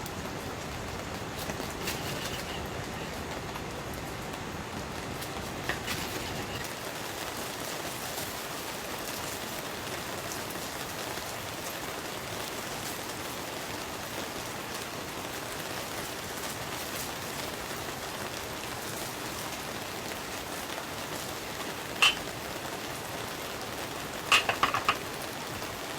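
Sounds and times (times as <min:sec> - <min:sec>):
rain pattering on a tent: 0:00.0 - 0:25.9.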